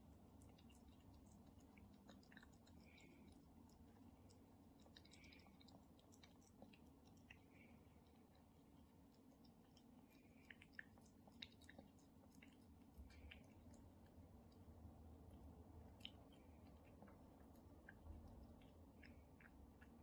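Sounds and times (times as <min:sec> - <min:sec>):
cat chewing wet food: 0:00.0 - 0:20.0.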